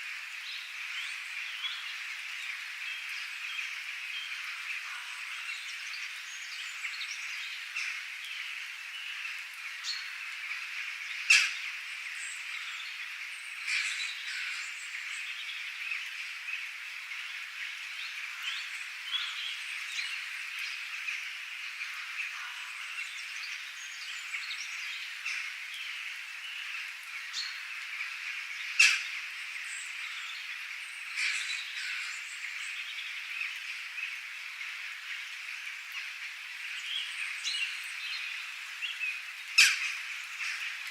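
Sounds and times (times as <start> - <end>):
frogs croaking: 0.0 - 40.9
birds calling: 0.5 - 40.9.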